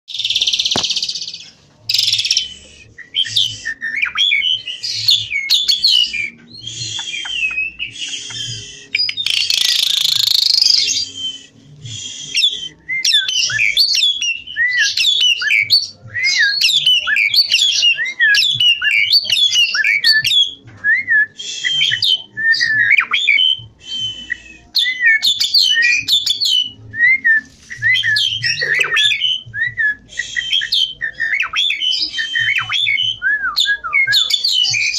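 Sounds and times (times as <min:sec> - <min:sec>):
starling singing: 0:00.1 - 0:34.9.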